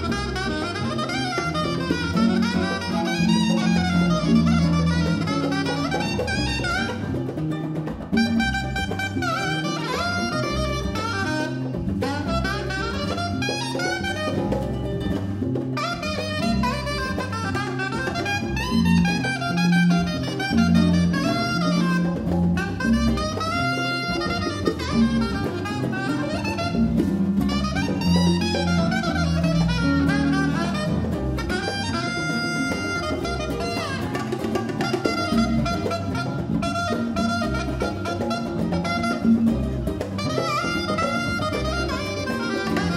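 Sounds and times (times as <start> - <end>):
acoustic guitar: 0.0 - 42.9
bass guitar: 0.0 - 42.9
congas: 0.0 - 42.9
saxophone melody: 0.0 - 42.9.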